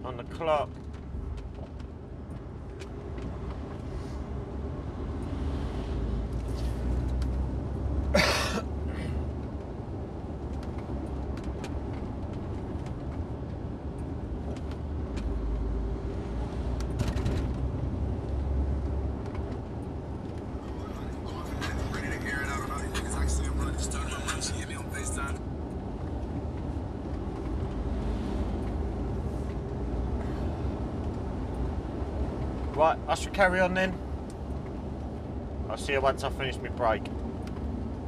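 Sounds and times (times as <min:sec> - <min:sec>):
lorry engine and road noise: 0:00.0 - 0:38.0.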